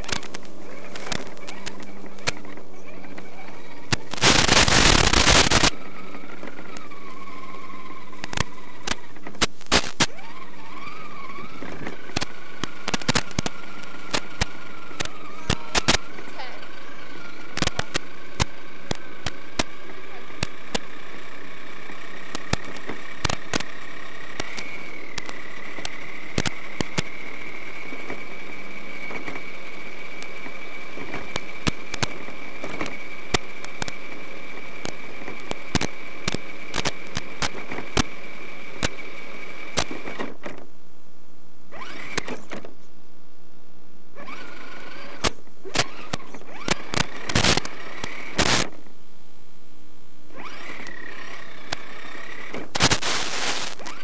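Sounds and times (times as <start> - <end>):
sharp clicks and pops: 0.0 - 10.4, 11.2 - 40.8, 41.7 - 43.0, 44.2 - 49.0, 50.3 - 54.0
electric motor whining: 0.0 - 40.6, 41.7 - 42.7, 44.1 - 48.8, 50.3 - 54.0.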